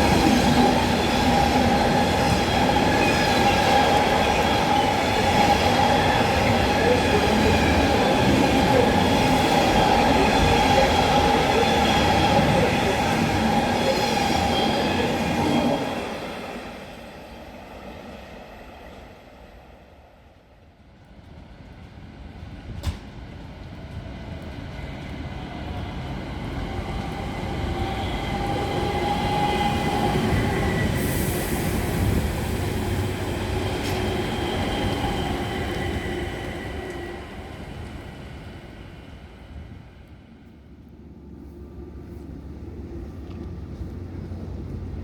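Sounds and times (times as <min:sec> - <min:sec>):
train rumble: 0:00.0 - 0:17.5, 0:20.4 - 0:45.0.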